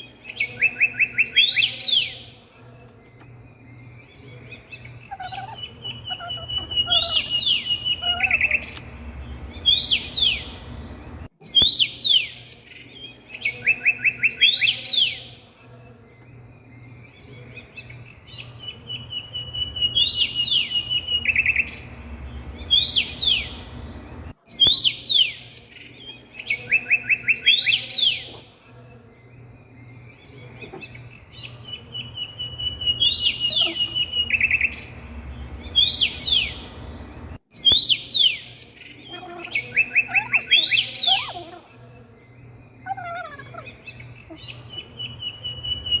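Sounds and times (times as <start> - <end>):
steady low hum: 0.0 - 11.3, 12.4 - 46.0
songbird singing: 0.0 - 46.0.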